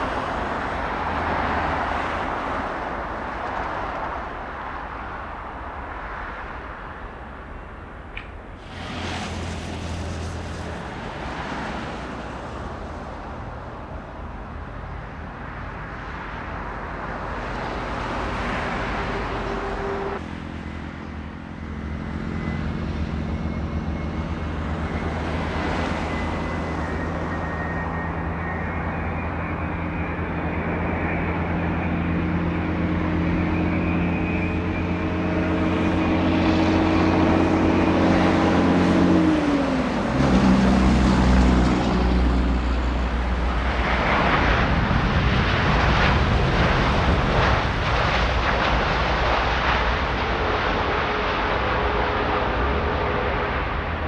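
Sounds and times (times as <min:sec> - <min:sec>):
airliner engine rush: 0:00.0 - 0:54.0
droning engine hum: 0:00.0 - 0:54.0
faint high engine whine: 0:00.0 - 0:54.0.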